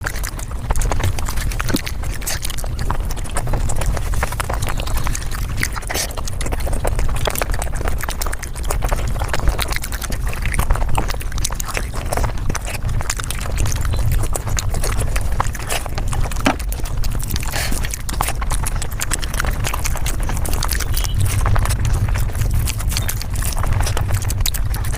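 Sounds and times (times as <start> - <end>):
rapid chewing and crunching: 0.0 - 24.9
low rumble: 0.3 - 24.9.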